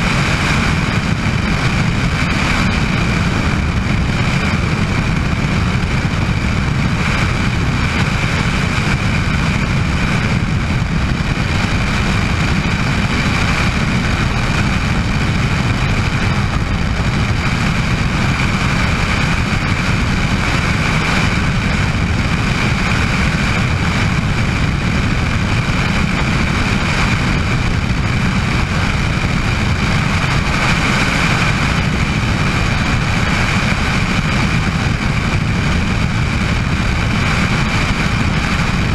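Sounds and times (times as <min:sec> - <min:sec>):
helicopter running: 0:00.0 - 0:38.9.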